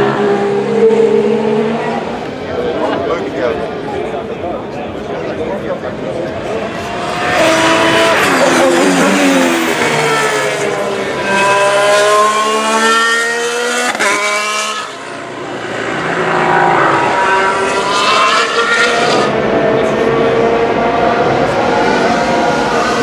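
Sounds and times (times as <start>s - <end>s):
racing car engines passing: 0.0s - 23.0s.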